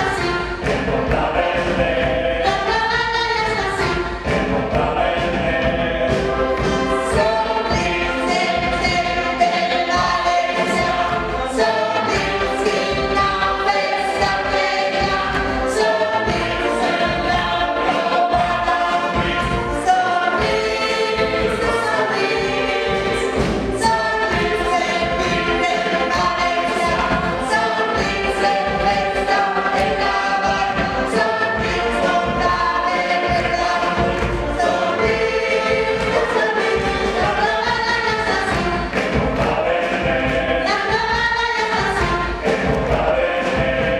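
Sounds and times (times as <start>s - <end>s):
backing track with steady beat: 0.0s - 43.9s
group singing in unison: 0.0s - 43.9s.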